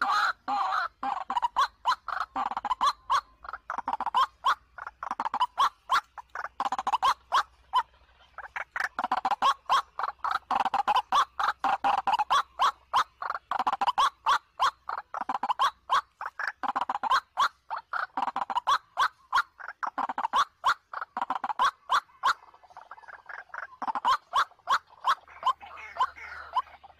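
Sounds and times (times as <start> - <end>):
bird calling harsh repeated notes: 0.0 - 26.9.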